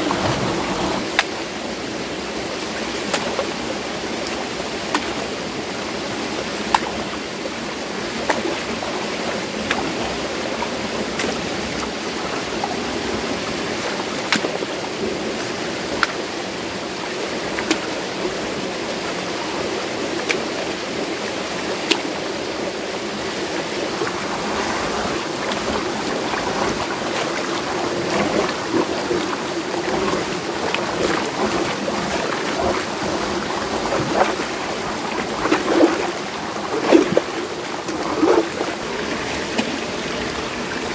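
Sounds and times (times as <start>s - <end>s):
stream rushing over rocks: 0.0s - 40.9s
water splashing: 0.0s - 40.9s.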